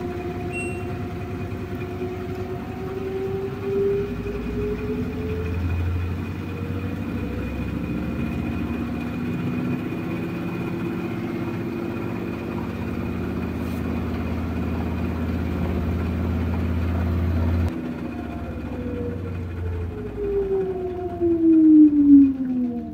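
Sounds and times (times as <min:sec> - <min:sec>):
washing machine spinning: 0:00.0 - 0:22.9.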